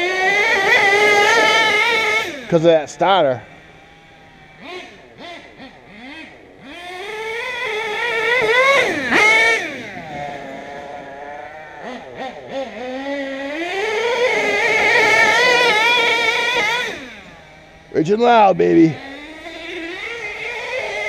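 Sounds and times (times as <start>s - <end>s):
small glow engine revving: 0.0s - 21.0s.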